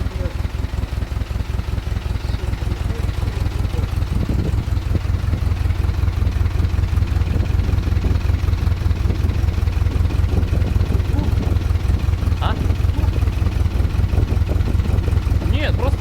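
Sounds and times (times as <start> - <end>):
engine idling: 0.0 - 16.0
engine valve knocking: 0.0 - 16.0.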